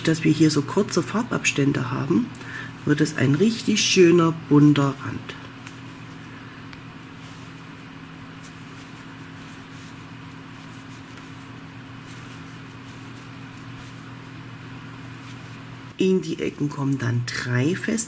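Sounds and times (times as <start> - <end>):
low hum of held tones: 0.0 - 18.0.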